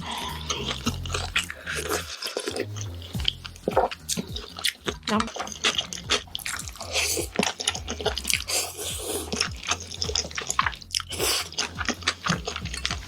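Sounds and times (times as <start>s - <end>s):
crunchy bites: 0.0s - 13.0s
person chewing food: 0.0s - 13.0s.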